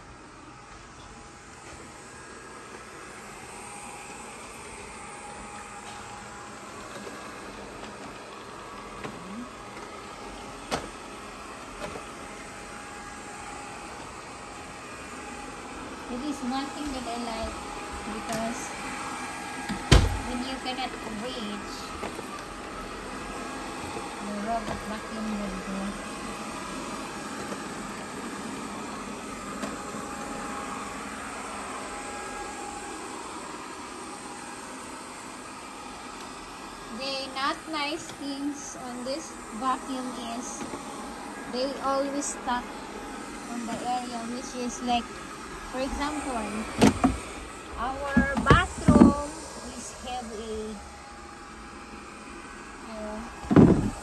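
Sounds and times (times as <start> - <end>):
robot vacuum whirring: 1.5 - 54.0.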